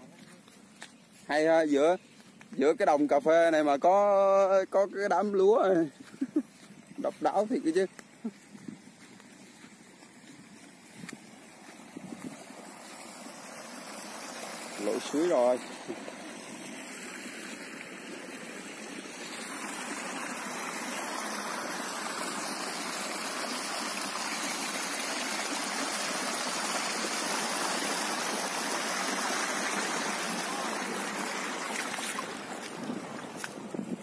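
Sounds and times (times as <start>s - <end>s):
water rushing in a ditch: 0.0s - 34.0s.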